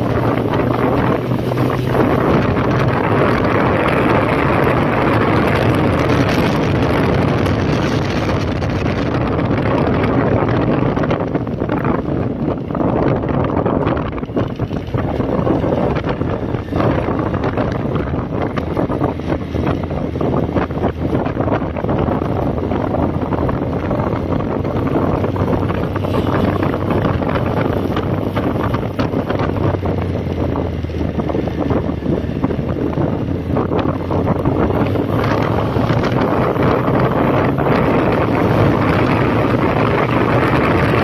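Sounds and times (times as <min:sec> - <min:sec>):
motorcycle engine running: 0:00.0 - 0:41.0
wind buffeting microphone: 0:00.0 - 0:41.0.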